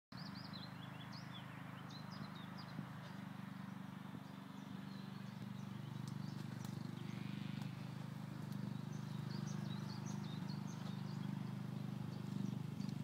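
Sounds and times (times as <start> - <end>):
songbirds chirping: 0.1 - 13.0
lawnmower engine running: 0.2 - 13.0.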